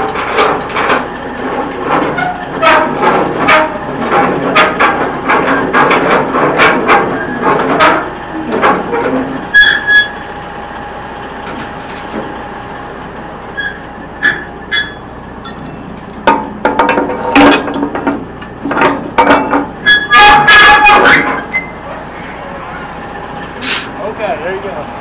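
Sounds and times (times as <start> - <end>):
steel parts clanking: 0.0 - 10.2, 13.6 - 23.8.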